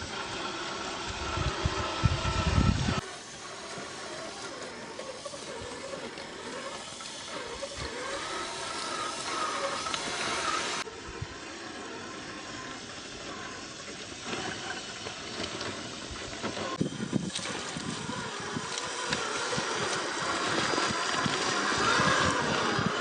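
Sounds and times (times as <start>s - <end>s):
small motor whining: 0.0s - 23.0s.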